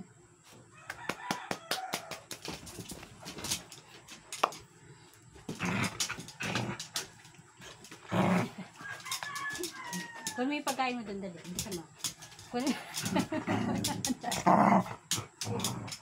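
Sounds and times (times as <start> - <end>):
dogs scuffling with claw clicks: 2.0 - 4.7, 5.4 - 16.0.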